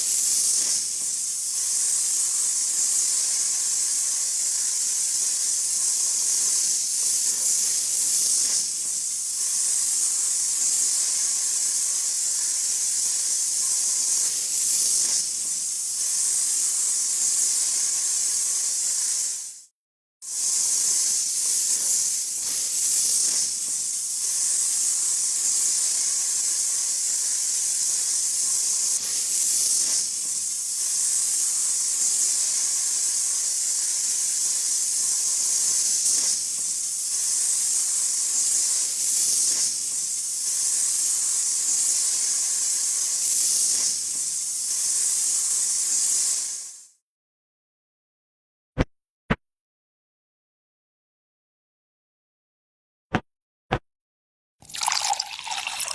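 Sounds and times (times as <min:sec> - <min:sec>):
high-pitched hiss: 0:00.0 - 0:19.6, 0:20.3 - 0:46.9.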